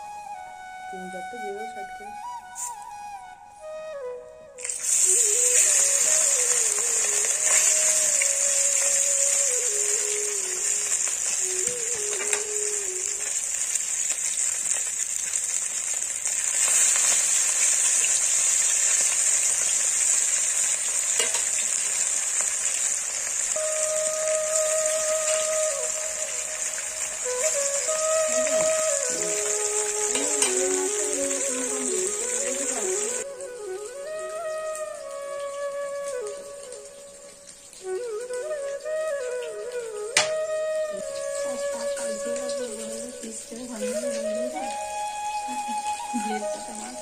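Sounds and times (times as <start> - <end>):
fish frying in hot oil: 4.6 - 47.0.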